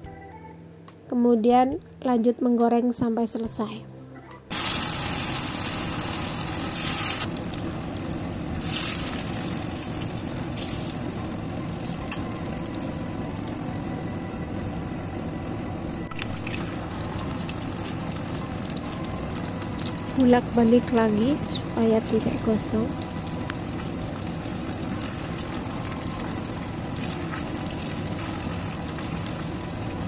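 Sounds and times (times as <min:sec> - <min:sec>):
chicken deep-frying in oil: 0:04.5 - 0:30.0.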